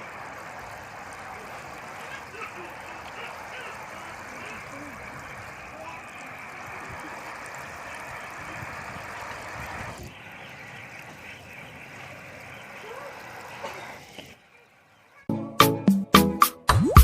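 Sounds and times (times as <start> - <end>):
running water rushing: 0.0 - 15.1.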